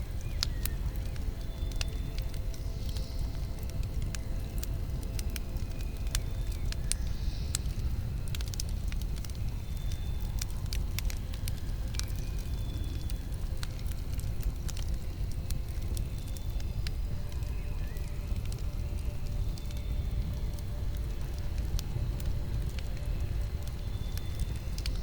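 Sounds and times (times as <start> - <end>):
fire low rumble: 0.0 - 25.0
wood crackling and popping: 0.0 - 25.0.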